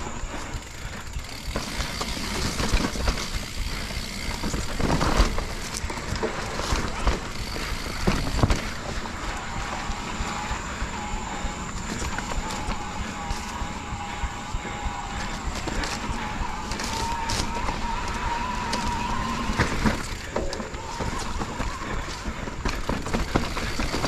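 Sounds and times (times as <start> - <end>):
bike rattling and knocking: 0.0 - 24.0.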